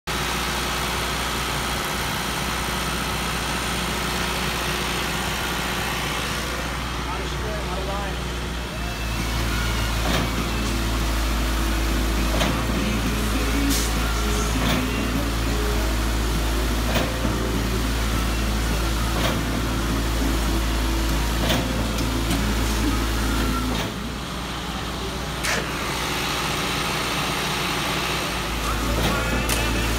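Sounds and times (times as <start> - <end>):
concrete mixer truck engine: 0.1 - 29.9
concrete pump engine running: 0.1 - 29.9.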